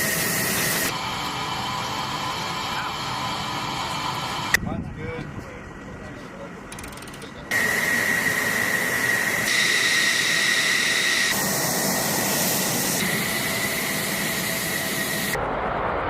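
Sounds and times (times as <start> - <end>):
jet engine whine and hiss: 0.0 - 5.9, 7.5 - 16.0.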